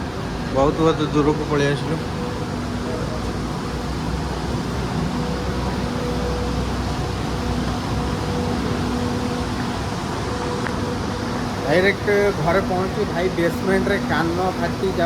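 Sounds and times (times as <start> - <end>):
loud machinery drone: 0.0 - 15.0.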